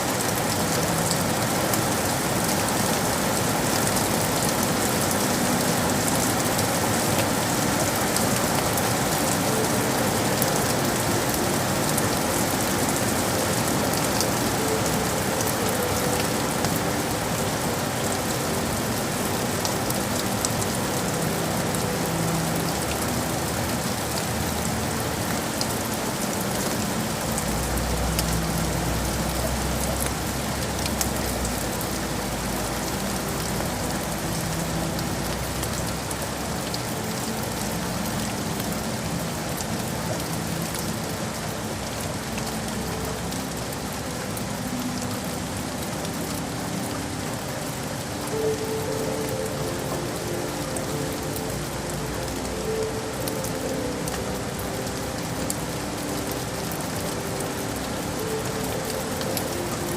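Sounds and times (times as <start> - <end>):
rain hissing: 0.0 - 59.9.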